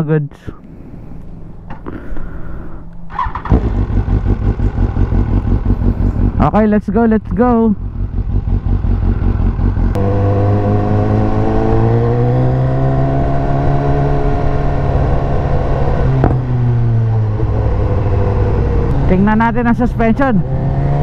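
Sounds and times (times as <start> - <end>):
motorcycle engine accelerating: 3.1 - 21.0.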